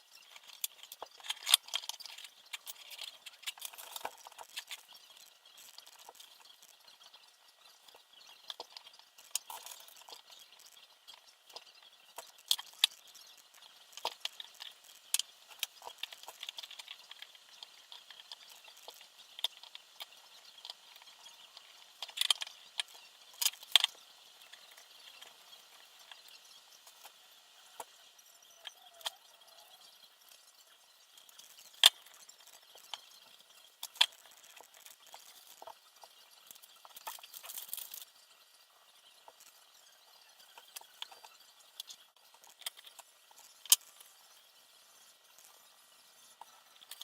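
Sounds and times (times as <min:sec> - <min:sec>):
light clicks and taps of small parts: 0:00.2 - 0:28.0, 0:31.1 - 0:38.2, 0:39.0 - 0:44.4.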